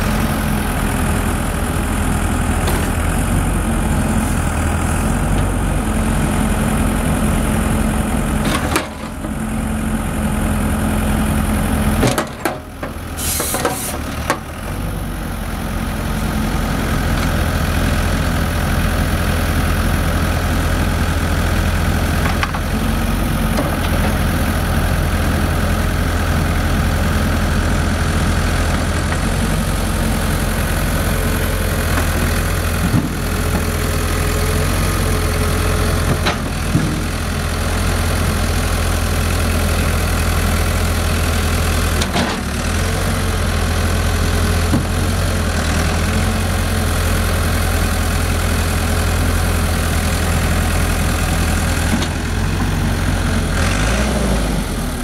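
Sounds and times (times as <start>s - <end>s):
diesel engine running at low revs: 0.0s - 55.0s.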